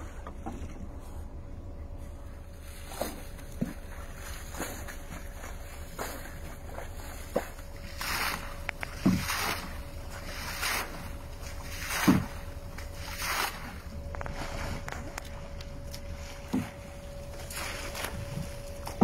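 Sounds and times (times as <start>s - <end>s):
water sloshing and splashing in boat: 0.0s - 19.0s
water thumping in hull: 2.5s - 19.0s.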